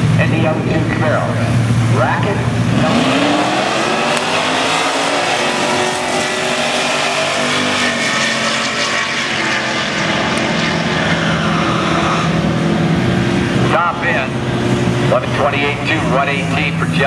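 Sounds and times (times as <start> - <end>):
racing car engines at full throttle: 0.0 - 17.0.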